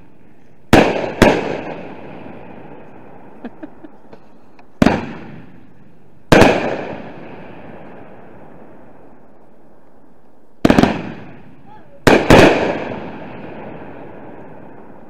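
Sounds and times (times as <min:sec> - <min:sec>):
fireworks bangs echoing: 0:00.0 - 0:09.2, 0:10.6 - 0:15.0.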